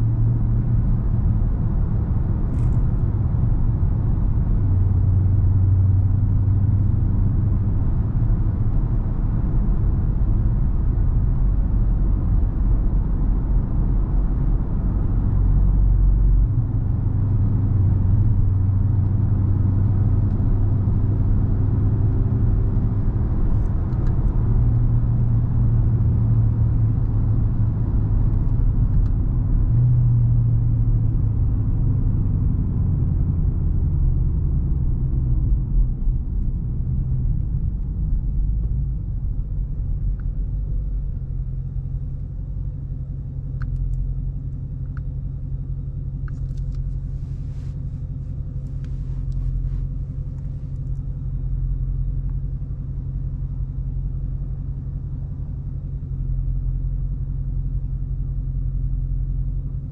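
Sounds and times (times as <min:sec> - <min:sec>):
car engine droning: 0:00.0 - 0:59.9.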